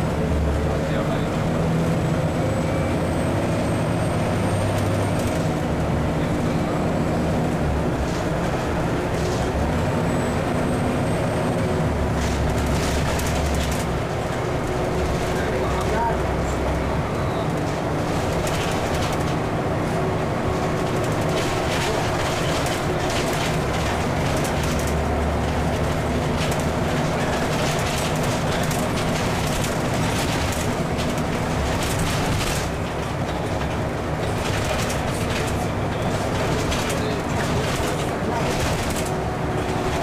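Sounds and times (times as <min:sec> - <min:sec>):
bus body rattling: 0:00.0 - 0:40.0
bus engine droning: 0:00.0 - 0:40.0.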